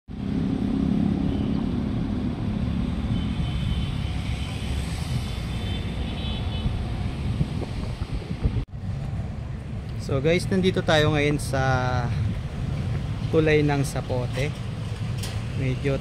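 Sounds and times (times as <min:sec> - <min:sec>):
road traffic rumble: 0:00.1 - 0:16.0.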